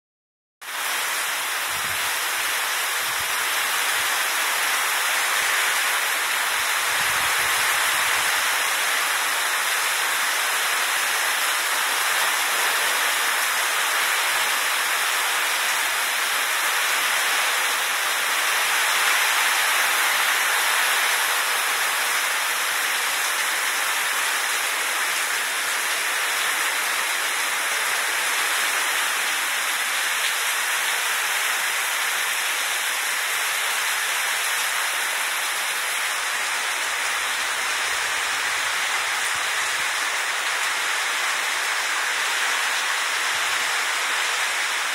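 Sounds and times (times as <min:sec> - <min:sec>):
heavy rain falling: 0:00.6 - 0:44.9.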